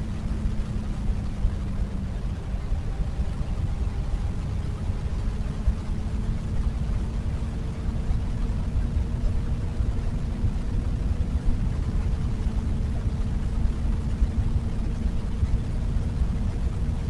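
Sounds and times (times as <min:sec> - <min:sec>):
motorcycle engine steady: 0:00.0 - 0:17.0.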